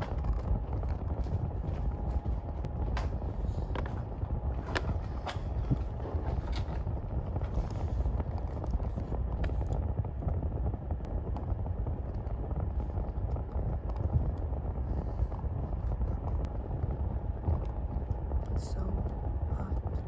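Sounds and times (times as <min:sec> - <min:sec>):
low rumbling room noise: 0:00.0 - 0:20.0.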